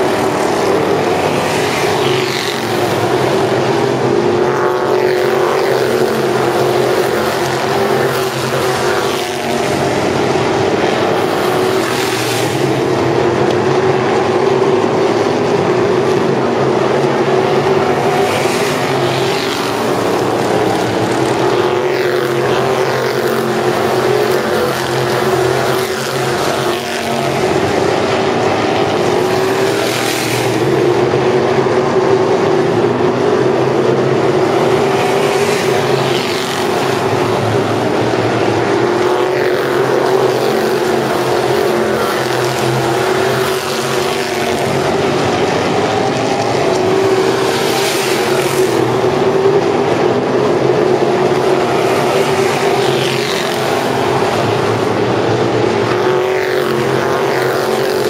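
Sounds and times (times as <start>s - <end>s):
race car engines droning: 0.0s - 58.0s
race car passing close: 0.0s - 58.0s.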